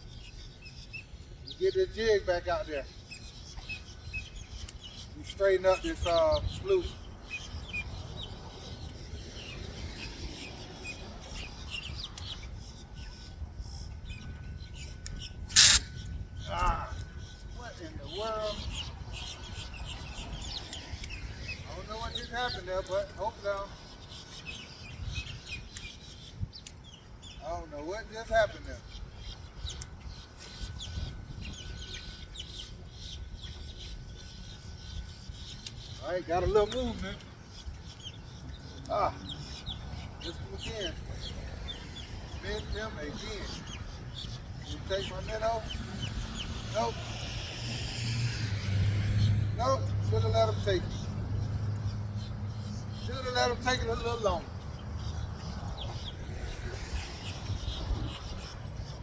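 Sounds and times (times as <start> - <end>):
small birds chirping: 0.0 - 59.0
steady low rumble: 3.0 - 27.2, 28.0 - 59.0.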